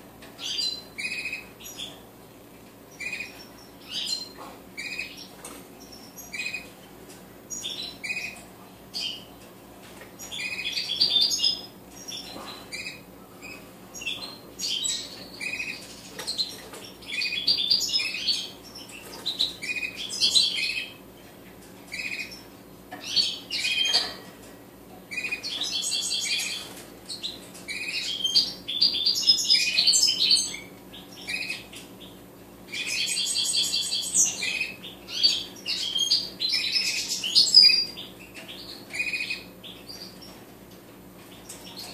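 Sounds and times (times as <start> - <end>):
finches chirping and twittering: 0.3 - 6.8, 7.4 - 9.4, 10.0 - 24.3, 25.1 - 40.5, 41.2 - 41.9.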